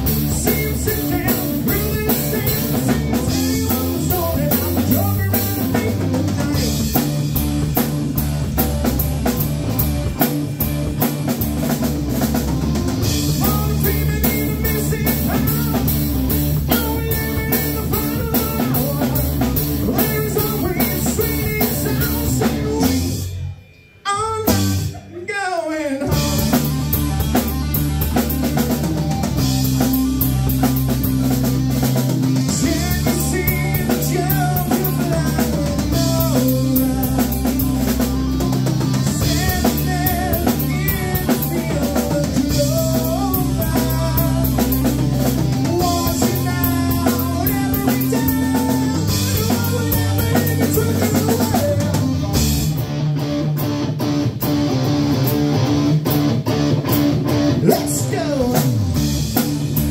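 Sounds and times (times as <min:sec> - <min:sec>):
drum beat: 0:00.0 - 0:22.7, 0:26.1 - 0:52.4
electric guitar melody: 0:00.0 - 0:25.2, 0:26.0 - 0:59.9
bass guitar notes: 0:00.0 - 0:59.9.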